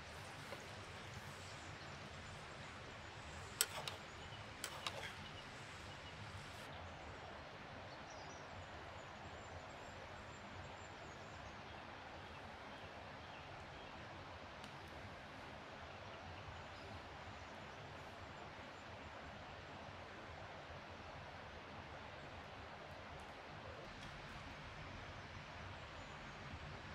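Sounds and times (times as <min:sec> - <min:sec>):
forest ambience hiss: 0:00.0 - 0:26.9.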